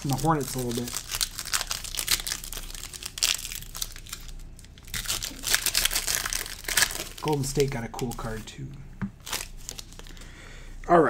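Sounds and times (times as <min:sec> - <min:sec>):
plastic wrapper crinkling: 0:00.0 - 0:10.3.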